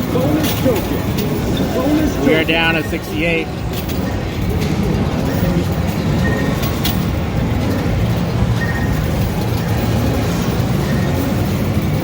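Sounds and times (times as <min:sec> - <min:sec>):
arcade machines and crowd rumble: 0:00.0 - 0:12.0.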